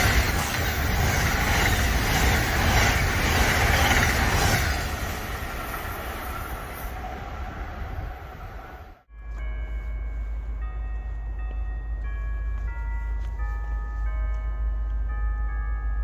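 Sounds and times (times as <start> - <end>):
train wheel and rail noise: 0.0 - 16.0.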